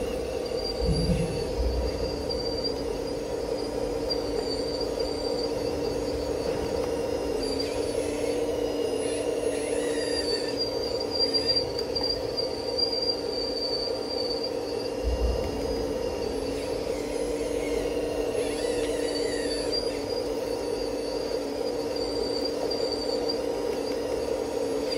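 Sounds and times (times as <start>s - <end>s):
model excavator motors whining: 0.0s - 24.9s.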